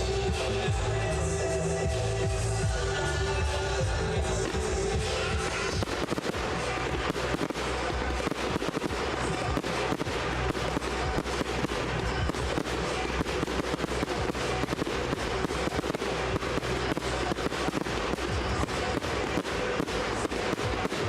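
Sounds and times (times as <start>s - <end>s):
fireworks bangs and crackles: 0.0s - 21.0s
music: 0.0s - 21.0s.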